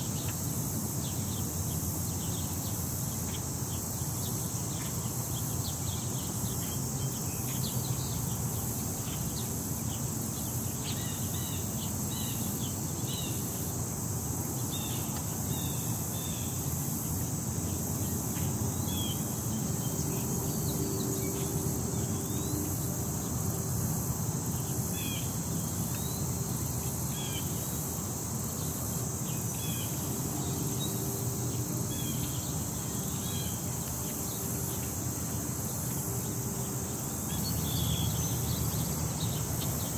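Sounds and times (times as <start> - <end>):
high-pitched hiss: 0.0 - 39.9.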